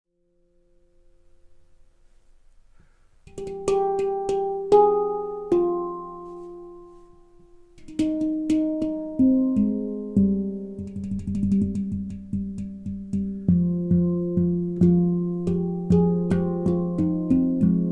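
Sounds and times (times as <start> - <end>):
handpan notes ringing: 3.3 - 17.9.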